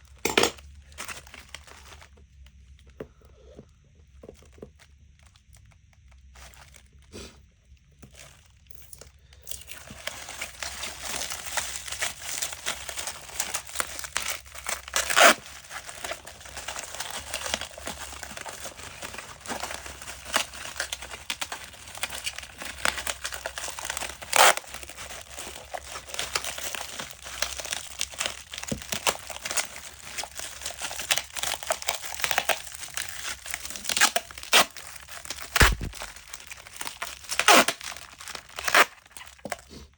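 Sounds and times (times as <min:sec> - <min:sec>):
dry material crinkling and tearing: 0:00.0 - 0:02.9, 0:04.2 - 0:39.9.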